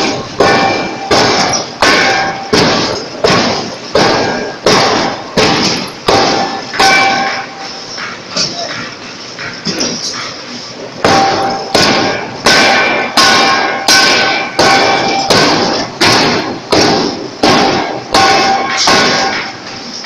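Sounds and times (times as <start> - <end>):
forging hammer ringing blows: 0.0 - 9.5, 11.0 - 19.9.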